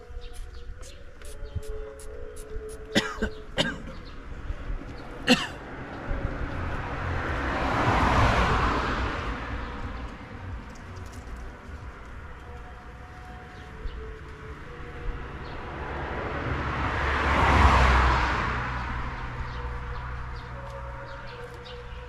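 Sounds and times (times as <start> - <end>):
vehicle passing: 0.8 - 22.0.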